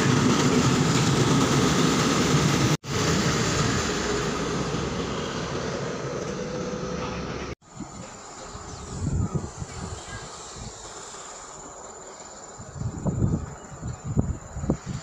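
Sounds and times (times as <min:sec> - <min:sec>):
passenger train rumbling past: 0:00.0 - 0:15.0.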